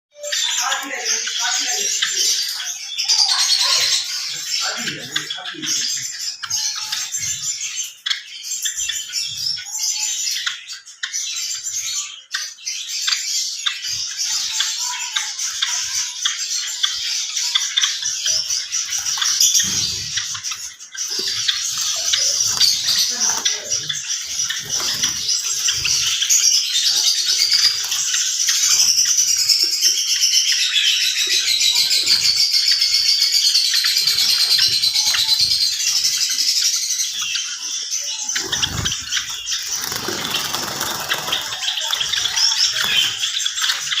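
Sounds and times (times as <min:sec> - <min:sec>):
sparrows chirping: 0:00.1 - 0:44.0.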